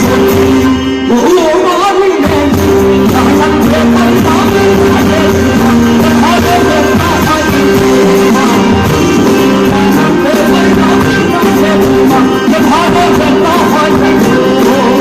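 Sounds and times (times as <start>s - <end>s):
loud live fusion music: 0.0s - 15.0s
person singing: 0.0s - 15.0s.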